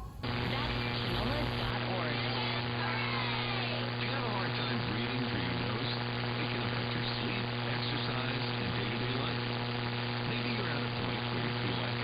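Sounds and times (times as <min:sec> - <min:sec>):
buzzing hum: 0:00.0 - 0:12.0
faint voice: 0:00.0 - 0:12.0
radio static hiss: 0:00.0 - 0:12.0.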